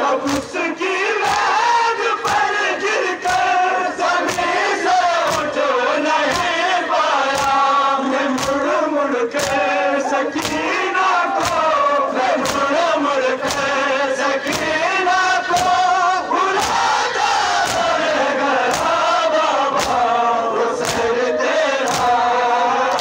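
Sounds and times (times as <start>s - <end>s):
crowd of men chanting: 0.0s - 23.0s
chest-beating slaps: 0.2s - 0.6s, 1.2s - 1.6s, 2.2s - 2.6s, 3.2s - 5.6s, 6.2s - 8.7s, 9.3s - 23.0s.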